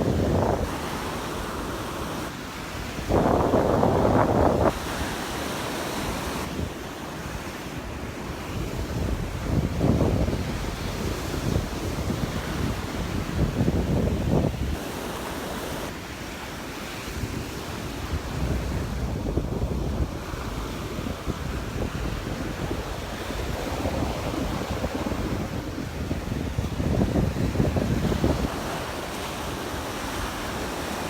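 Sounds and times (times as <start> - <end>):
gusty wind buffeting microphone: 0.0 - 16.0, 17.0 - 31.0
waves breaking on beach: 0.0 - 31.0.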